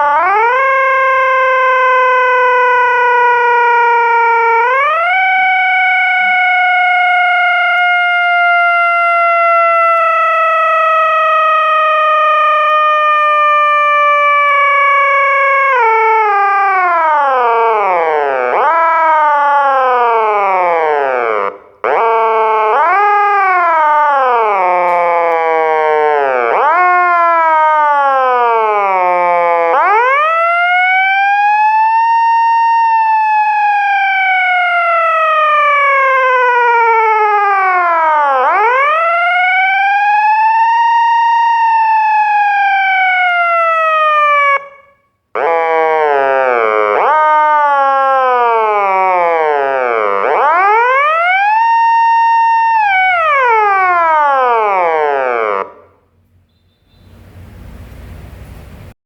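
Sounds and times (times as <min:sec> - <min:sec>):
fire truck siren: 0:00.0 - 0:56.4.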